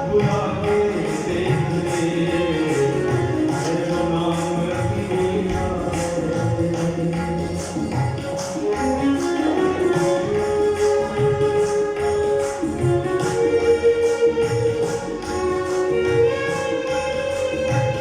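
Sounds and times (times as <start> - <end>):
jingling hand percussion: 0.0 - 18.0.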